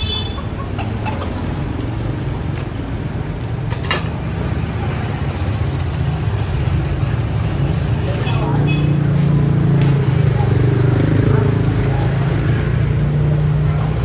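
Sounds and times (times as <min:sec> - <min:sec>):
low rumble of passing vehicles: 0:00.0 - 0:14.0.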